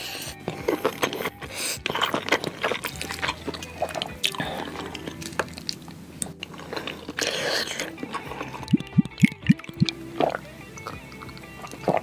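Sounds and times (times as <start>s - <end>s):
noodle slurping: 0.0s - 12.0s
wet chewing smacks: 0.0s - 12.0s.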